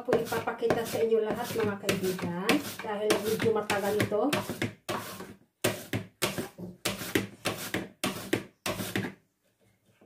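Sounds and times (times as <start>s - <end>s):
potato scraping on mandoline slicer: 0.0s - 9.1s.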